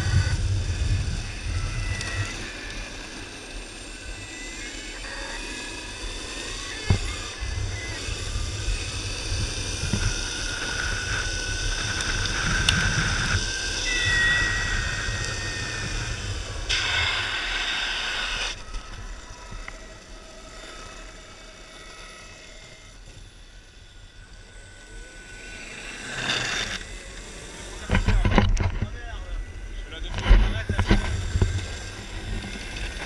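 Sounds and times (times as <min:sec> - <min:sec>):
wind on microphone: 0:00.0 - 0:20.3, 0:26.8 - 0:33.0
electric motor whine: 0:00.0 - 0:33.0
wheels rumbling on asphalt: 0:00.0 - 0:33.0.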